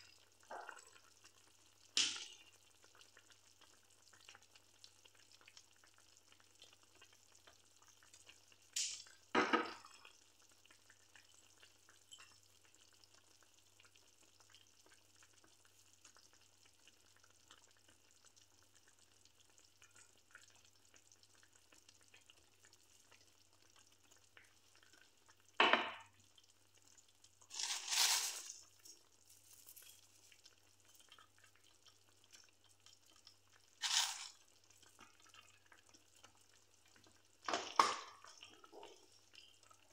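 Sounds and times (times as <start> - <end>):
broth simmering in a pan: 0.0 - 39.9.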